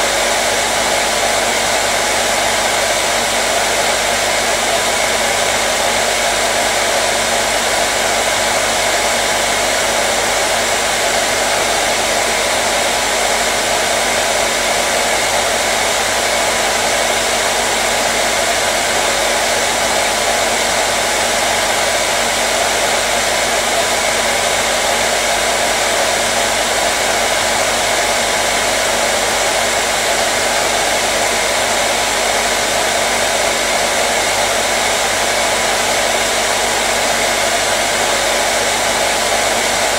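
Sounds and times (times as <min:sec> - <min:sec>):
hair dryer blowing air: 0:00.0 - 0:39.9.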